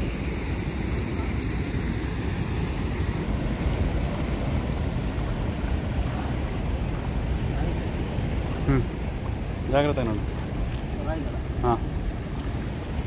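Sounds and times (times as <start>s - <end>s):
river water rushing over dam: 0.0s - 13.0s.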